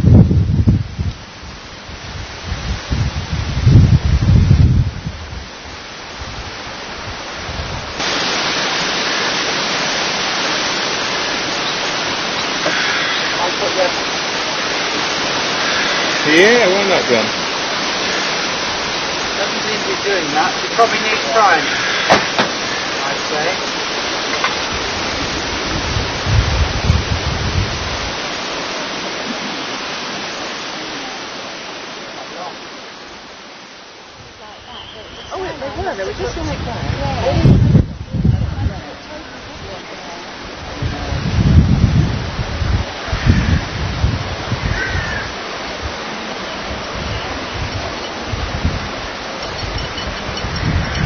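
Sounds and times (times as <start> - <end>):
wind buffeting microphone: 0.0 - 9.7, 12.0 - 28.4, 34.1 - 51.0
steady even hiss: 0.8 - 37.6, 38.4 - 51.0.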